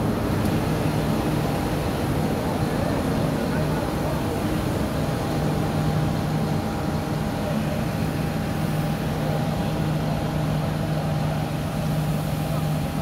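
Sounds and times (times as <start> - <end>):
tractor diesel engines idling: 0.0 - 13.0.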